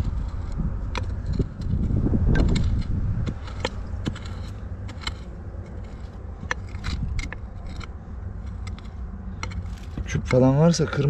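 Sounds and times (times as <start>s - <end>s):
mattock clicking on stones: 0.0s - 11.0s
mattock scraping through soil: 0.0s - 11.0s.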